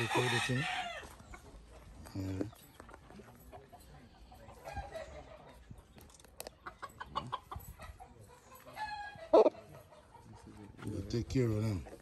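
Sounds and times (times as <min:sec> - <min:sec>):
roosters clucking: 0:00.0 - 0:12.0.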